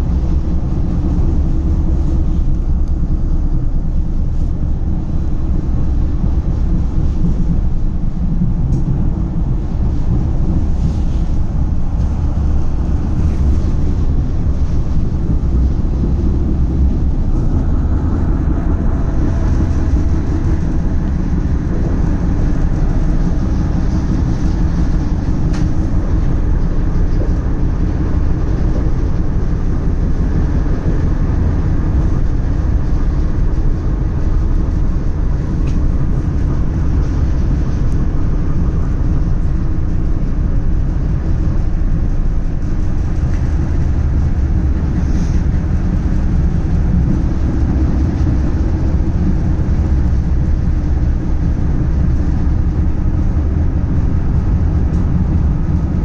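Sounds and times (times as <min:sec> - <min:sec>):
tram rumbling along track: 0:00.0 - 0:56.0.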